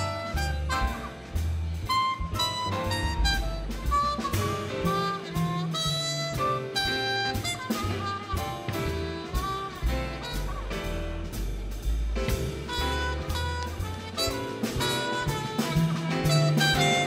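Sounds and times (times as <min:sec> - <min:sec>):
trumpet solo: 0:00.0 - 0:11.4, 0:12.4 - 0:17.0
jazz band playing: 0:00.0 - 0:17.0.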